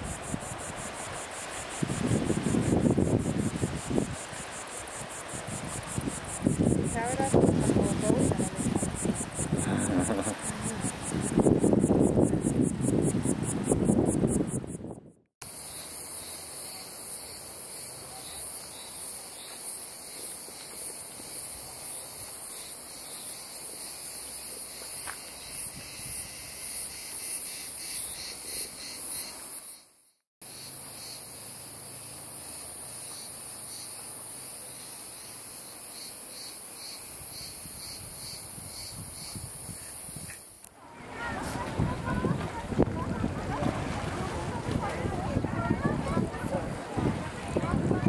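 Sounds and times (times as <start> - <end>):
cicadas chirring: 0.0 - 41.0.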